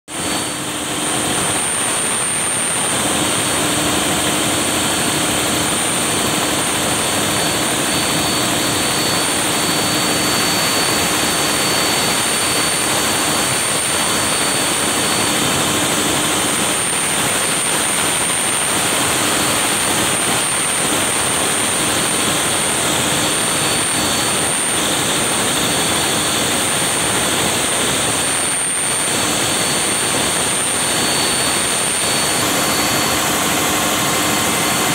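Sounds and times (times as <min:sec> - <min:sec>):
generator running: 0:00.1 - 0:34.9.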